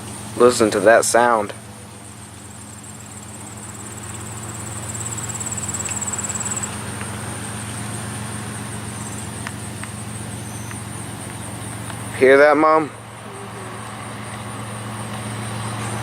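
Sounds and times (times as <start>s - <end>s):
diesel locomotive engines droning: 0.0s - 16.0s.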